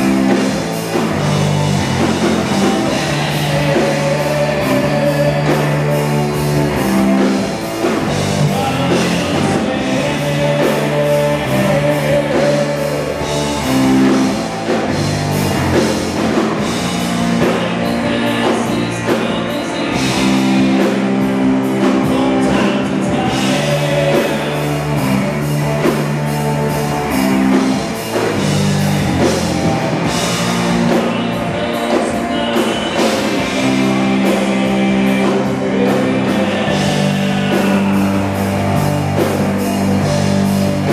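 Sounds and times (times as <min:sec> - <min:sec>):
drum kit with cymbals: 0:00.0 - 0:40.9
electric guitar: 0:00.0 - 0:40.9
rock band playing: 0:00.0 - 0:40.9.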